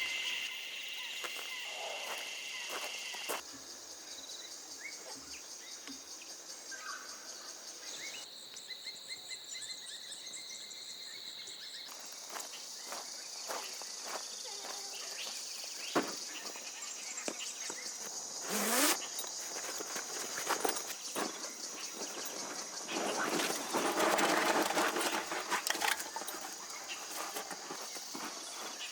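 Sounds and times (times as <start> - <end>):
insect chorus: 0.0 - 28.9.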